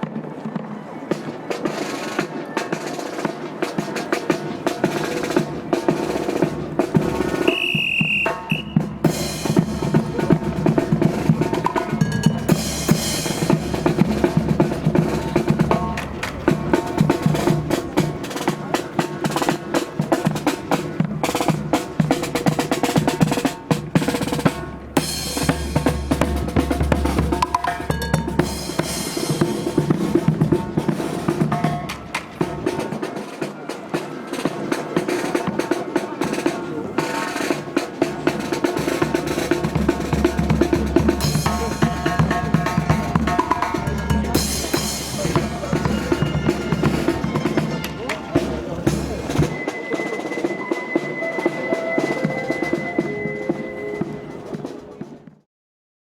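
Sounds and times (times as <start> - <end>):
snare drum rolls: 0.0 - 55.4
marching brass band playing: 1.0 - 55.4.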